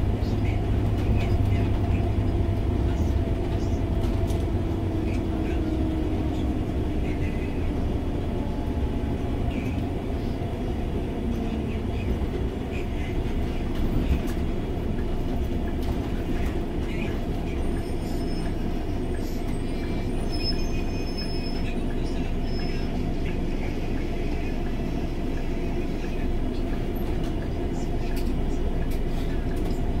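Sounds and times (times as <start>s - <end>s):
bus engine rumble: 0.0s - 30.0s
rolling noise in bus cabin: 0.0s - 30.0s.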